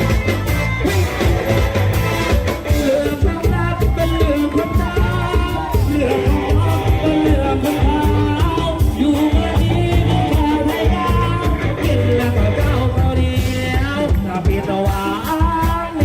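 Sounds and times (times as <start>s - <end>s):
driving drum beat: 0.0s - 16.0s
heavy bass: 0.0s - 16.0s
person singing: 0.0s - 16.0s.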